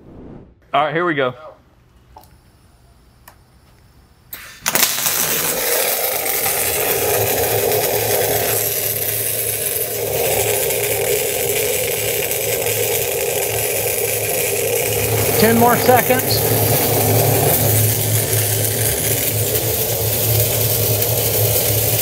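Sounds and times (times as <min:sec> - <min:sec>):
welding arc sizzling: 0:02.2 - 0:22.0.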